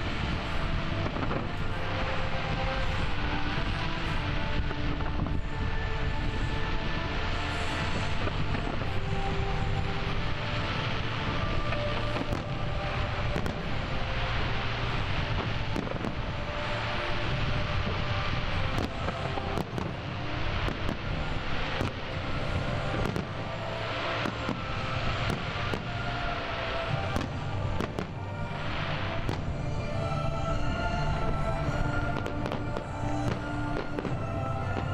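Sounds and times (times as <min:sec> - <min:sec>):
fireworks bangs and crackles: 0:00.0 - 0:34.9
rumbling wash of noise: 0:00.0 - 0:34.9.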